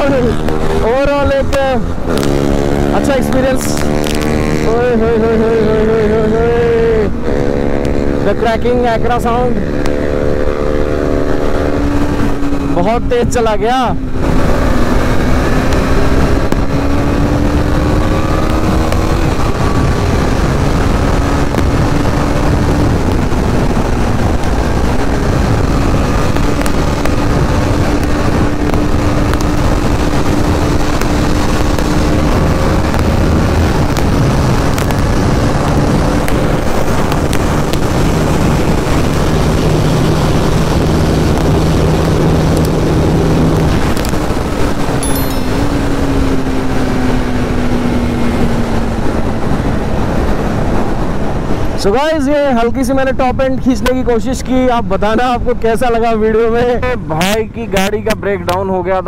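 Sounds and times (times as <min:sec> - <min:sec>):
motorcycle engine revving high: 0:00.0 - 0:13.2, 0:13.9 - 0:51.5
wind rush on microphone: 0:00.0 - 0:59.0.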